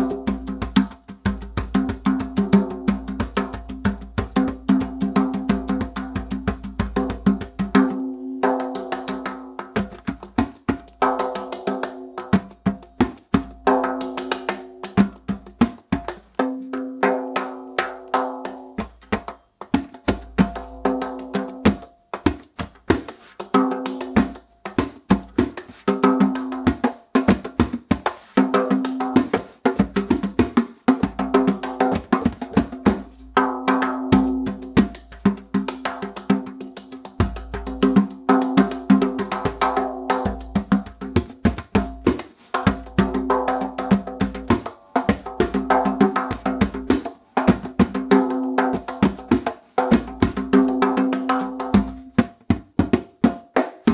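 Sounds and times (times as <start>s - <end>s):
hand drum strokes and slaps: 0.0s - 53.9s.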